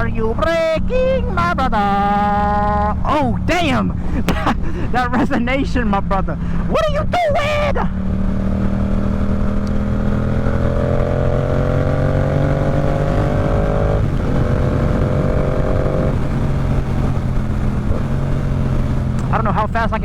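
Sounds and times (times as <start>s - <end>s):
motorcycle engine accelerating: 0.0s - 4.6s, 7.5s - 19.7s
road and wind rumble: 0.0s - 20.0s.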